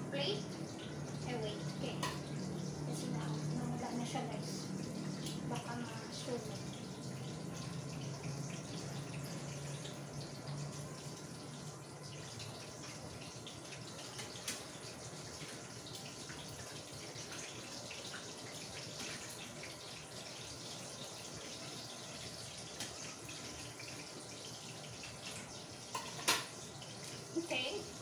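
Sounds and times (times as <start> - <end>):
spring rolls sizzling in oil: 0.0 - 28.0.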